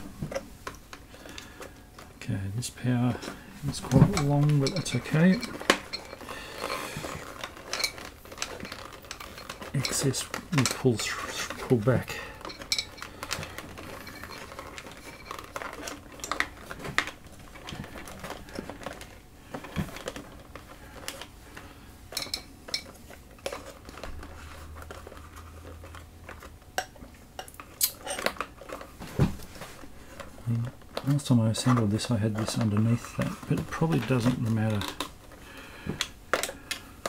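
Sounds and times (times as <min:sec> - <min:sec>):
hands handling guitar pedals and cables: 0:02.8 - 0:37.0.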